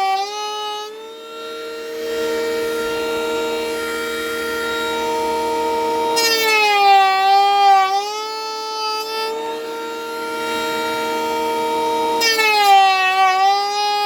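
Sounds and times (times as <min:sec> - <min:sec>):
cordless planer high whine: 0:00.0 - 0:14.0.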